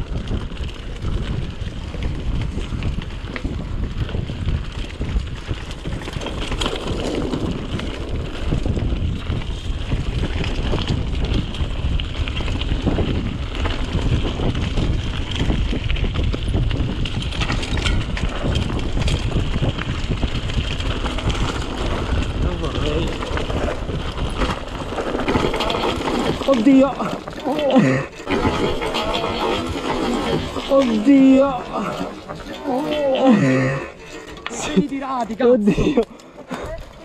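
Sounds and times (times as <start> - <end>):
bike rattling and knocking: 0.0 - 37.0
tyres on loose ground: 0.0 - 37.0
wind buffeting microphone: 0.0 - 37.0.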